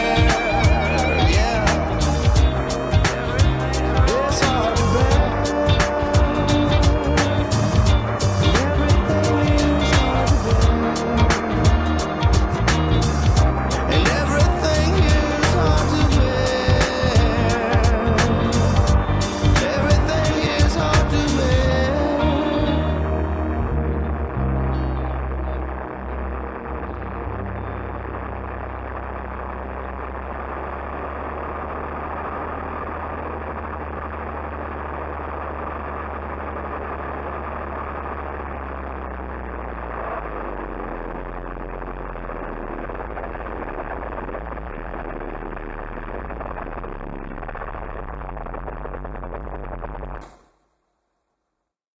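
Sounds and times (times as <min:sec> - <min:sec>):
rushing noise: 0:00.0 - 0:50.5.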